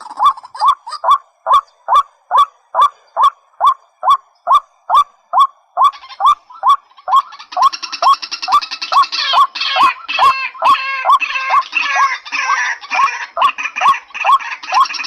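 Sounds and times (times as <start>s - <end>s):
waterbird calling: 0.0s - 15.0s.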